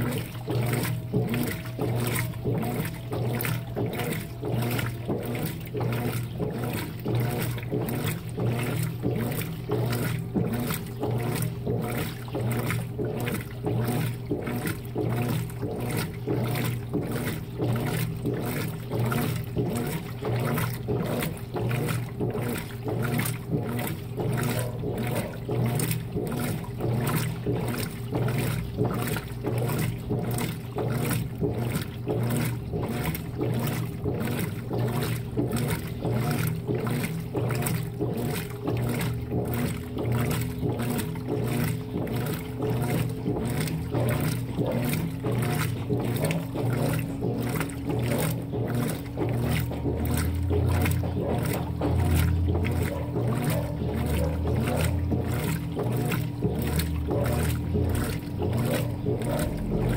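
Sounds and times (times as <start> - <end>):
low motor hum: 0.0 - 59.9
washing machine sloshing and churning: 0.0 - 59.9.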